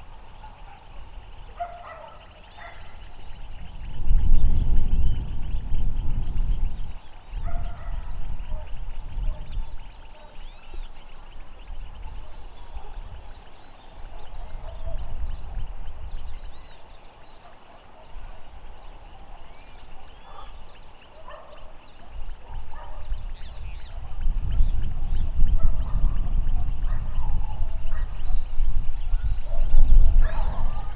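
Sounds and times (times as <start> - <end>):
bird calls: 0.0 - 30.9
wind buffeting microphone: 0.0 - 30.9.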